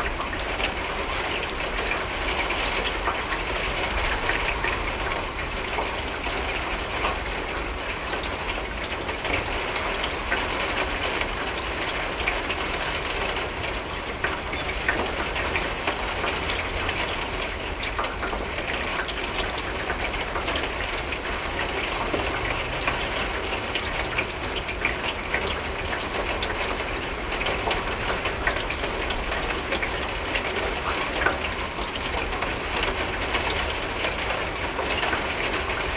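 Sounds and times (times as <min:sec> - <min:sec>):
rain tapping on a window: 0:00.0 - 0:35.9.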